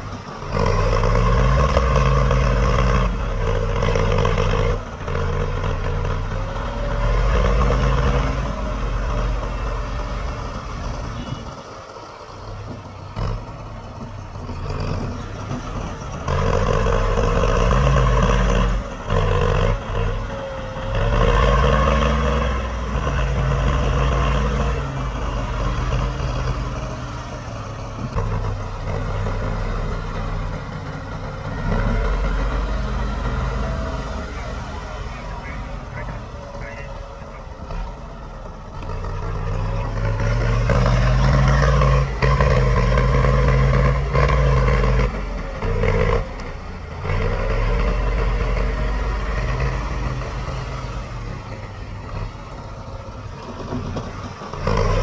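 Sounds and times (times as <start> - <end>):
heavy diesel engines revving: 0.0 - 55.0.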